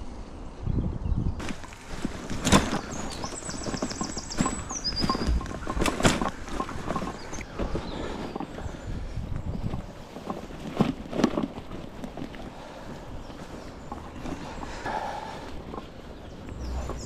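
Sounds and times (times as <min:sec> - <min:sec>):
bike and bags rattling: 0:01.4 - 0:17.0
bike tyres on mud and roots: 0:01.4 - 0:17.0.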